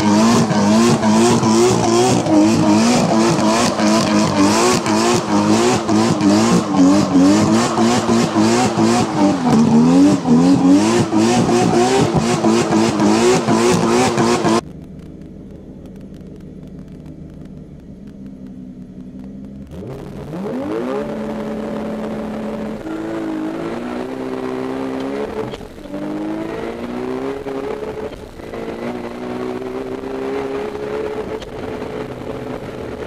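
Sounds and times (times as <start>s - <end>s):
car engine revving: 0.0s - 33.0s
exhaust crackles: 0.0s - 33.0s.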